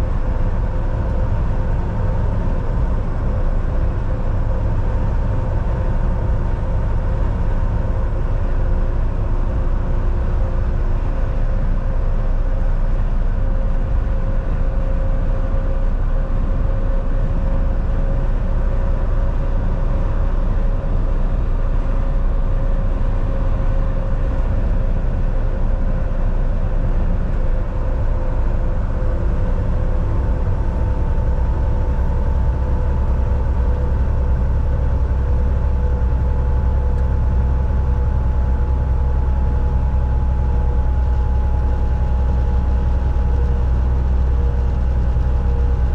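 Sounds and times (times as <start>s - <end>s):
road rumble: 0.0s - 45.9s
truck engine drone: 0.0s - 45.9s.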